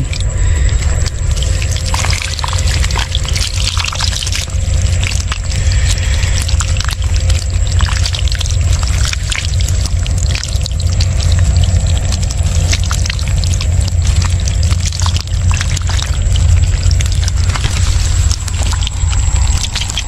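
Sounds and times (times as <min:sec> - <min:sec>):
steady low rumble: 0:00.0 - 0:20.0
water splashing and sloshing: 0:00.0 - 0:20.0.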